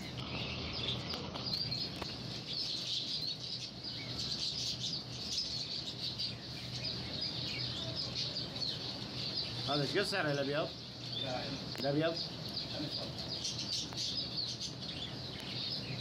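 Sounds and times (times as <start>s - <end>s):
low background hum: 0.0s - 16.0s
small birds chirping: 0.0s - 16.0s.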